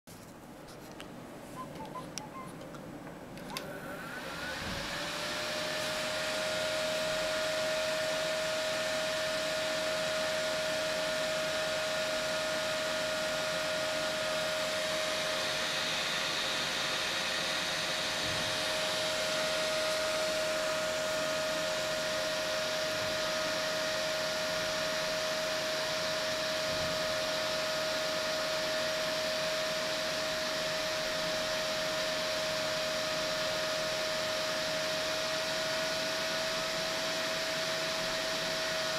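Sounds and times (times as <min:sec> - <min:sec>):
cooling fan whooshing and whining: 0:00.2 - 0:38.9.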